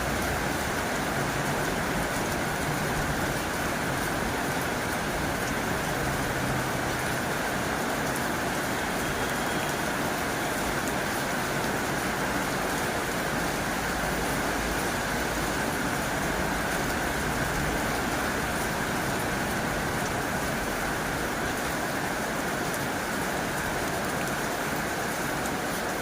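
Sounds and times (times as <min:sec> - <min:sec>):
heavy rain on a tin roof: 0:00.0 - 0:26.0.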